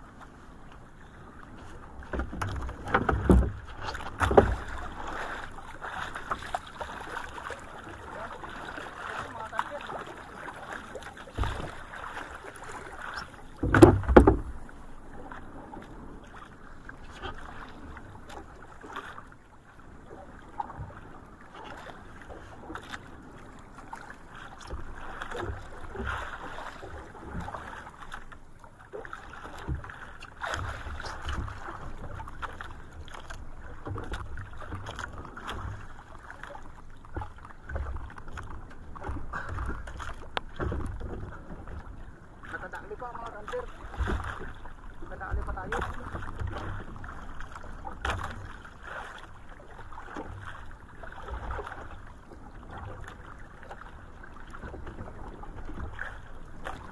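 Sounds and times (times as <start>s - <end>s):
water slapping boat hull: 0.0s - 56.9s.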